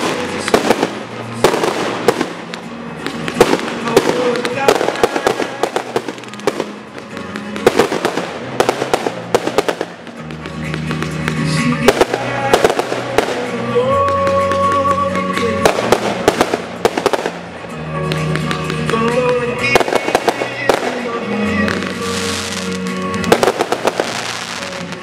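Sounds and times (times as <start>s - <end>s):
fireworks bursting and crackling: 0.0s - 25.0s
music with held notes: 0.0s - 25.0s.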